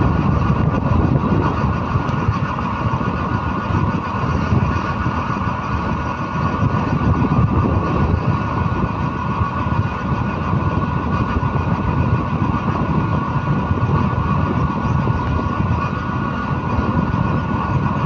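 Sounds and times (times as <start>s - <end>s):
road noise rumble: 0.0s - 18.0s
steady whining tones: 0.0s - 18.0s
vehicle engine running: 0.0s - 18.0s.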